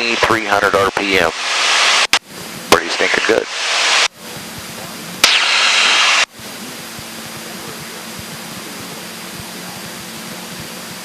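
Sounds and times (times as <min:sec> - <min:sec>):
aircraft engine drone: 0:00.0 - 0:11.0
radio static burst: 0:00.0 - 0:11.0.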